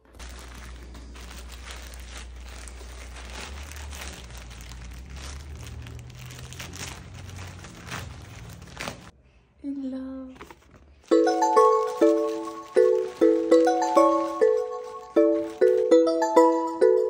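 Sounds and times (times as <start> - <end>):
plastic bag crinkling: 0.0 - 9.1, 10.4 - 16.7.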